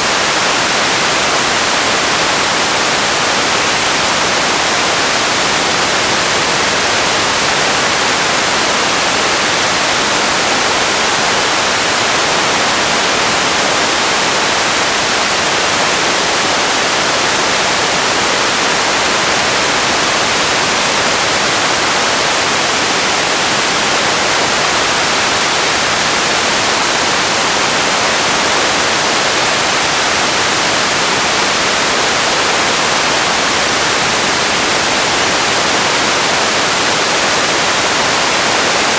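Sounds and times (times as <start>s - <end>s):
steady static hiss: 0.0s - 38.9s.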